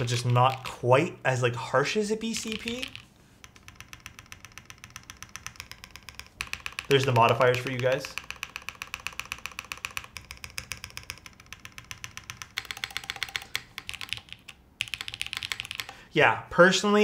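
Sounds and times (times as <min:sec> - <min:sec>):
mechanical keyboard clacks: 0:00.0 - 0:00.8, 0:02.2 - 0:16.1.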